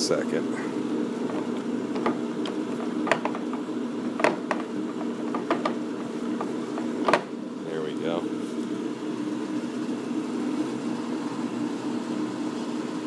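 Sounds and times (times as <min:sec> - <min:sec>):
lathe gear hum: 0:00.0 - 0:13.0.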